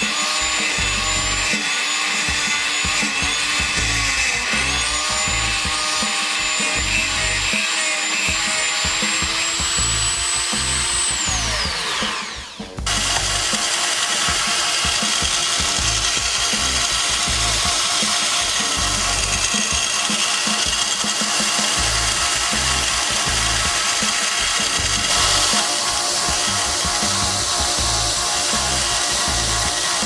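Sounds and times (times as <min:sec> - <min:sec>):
background music with beat: 0:00.0 - 0:30.0
electric power tool whining: 0:00.0 - 0:30.0.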